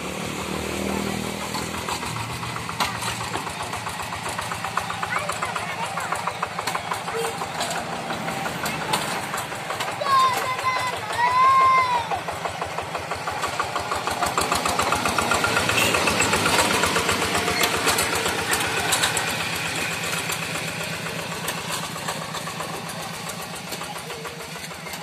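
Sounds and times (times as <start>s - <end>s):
tractor engine chugging: 0.0s - 25.0s.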